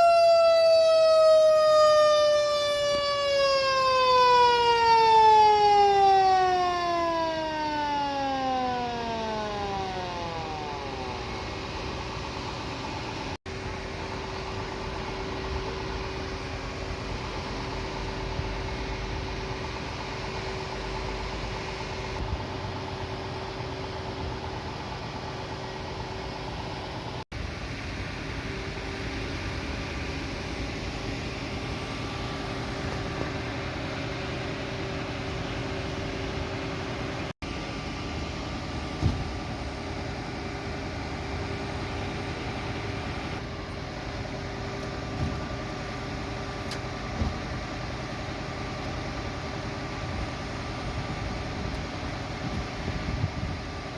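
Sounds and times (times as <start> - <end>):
fire truck engine idling: 0.0 - 53.9.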